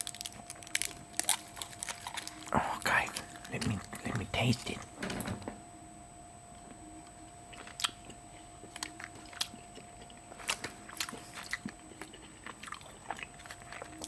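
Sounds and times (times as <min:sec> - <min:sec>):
chocolate crunching while chewed: 0:00.0 - 0:04.9, 0:07.5 - 0:14.0.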